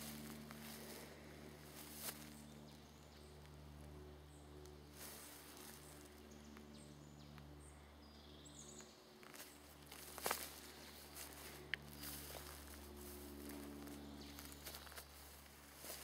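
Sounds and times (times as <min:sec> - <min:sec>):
steps rustling on forest floor: 0:00.0 - 0:03.9, 0:04.6 - 0:06.8, 0:09.2 - 0:16.0
steady low hum: 0:00.0 - 0:16.0.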